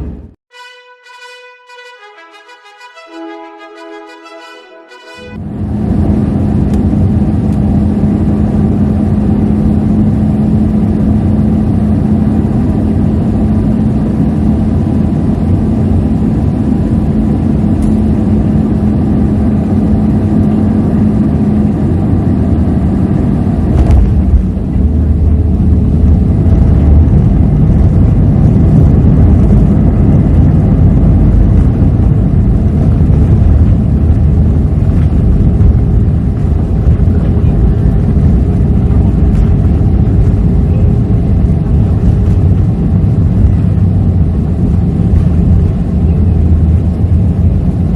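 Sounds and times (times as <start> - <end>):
airliner cabin engine noise: 5.3 - 47.9.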